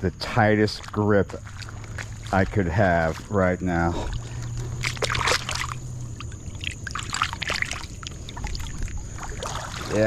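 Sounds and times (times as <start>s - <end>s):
low steady hum: 0.0s - 10.0s
water splashes and drips: 0.0s - 10.0s.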